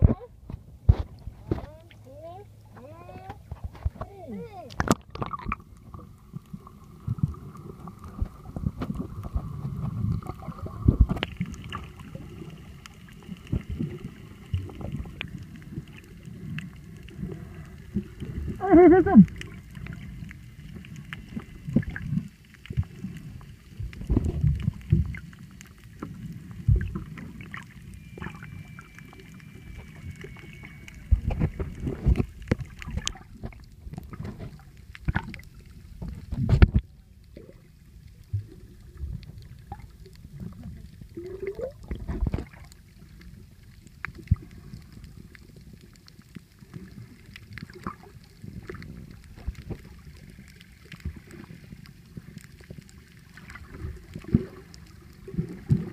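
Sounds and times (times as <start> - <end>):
muffled underwater sloshing: 0.0 - 55.9.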